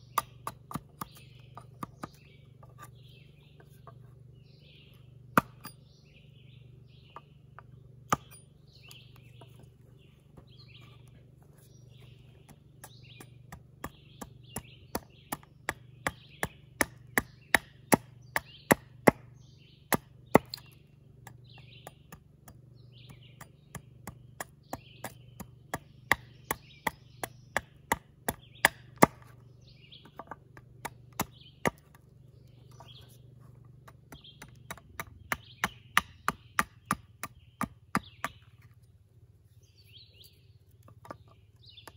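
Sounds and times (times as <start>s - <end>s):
hatchet chopping wood: 0.0s - 4.0s, 4.8s - 5.9s, 7.0s - 9.5s, 11.9s - 38.8s.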